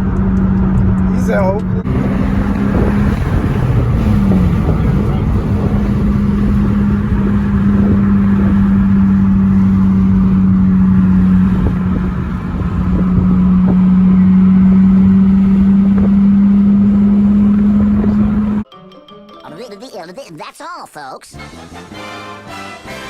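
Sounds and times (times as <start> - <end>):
car exhaust drone: 0.0 - 18.7.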